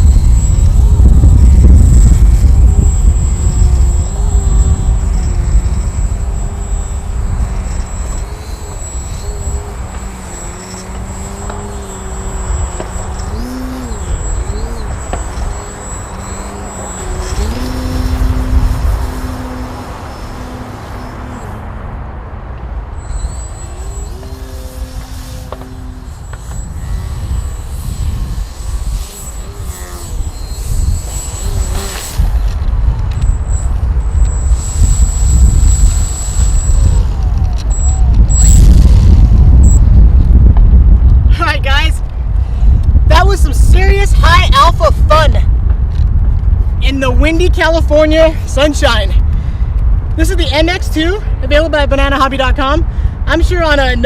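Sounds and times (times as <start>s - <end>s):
model airplane motor and propeller: 0.0s - 54.0s
wind buffeting microphone: 0.0s - 54.0s.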